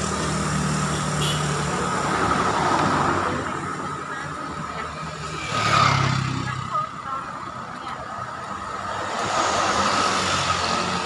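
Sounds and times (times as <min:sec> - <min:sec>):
vehicles passing on road: 0:00.0 - 0:11.0.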